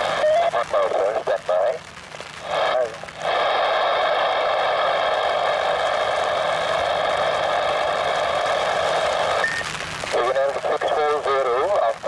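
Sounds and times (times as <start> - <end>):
faint hum: 0.0 - 12.0
radio static hiss: 0.0 - 12.0.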